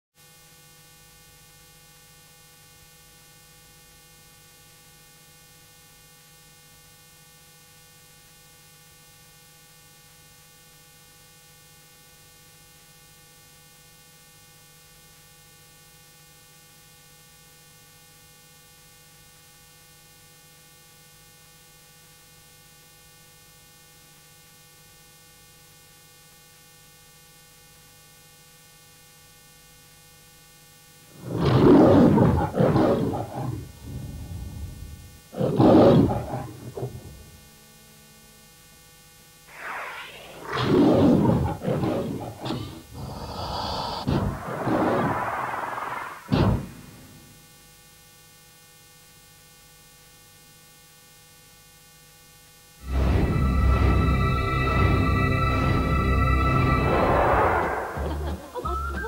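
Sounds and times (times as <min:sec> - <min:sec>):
faint mains hum: 0:00.2 - 0:59.0
tape hiss: 0:00.2 - 0:59.0.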